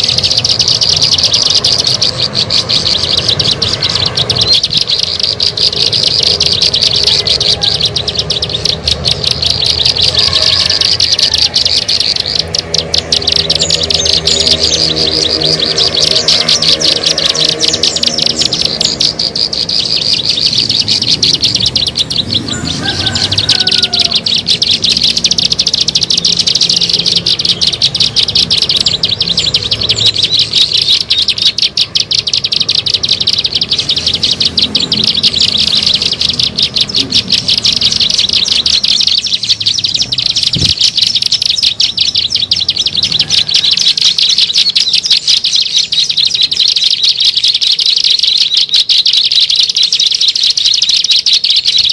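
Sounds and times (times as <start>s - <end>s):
bird rapid high-pitched ticking call: 0.0s - 51.9s.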